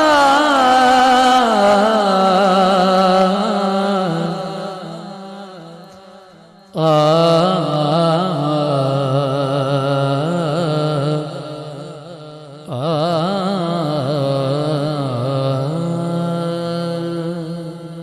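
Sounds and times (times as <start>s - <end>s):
person singing ornamented phrases: 0.0s - 18.0s.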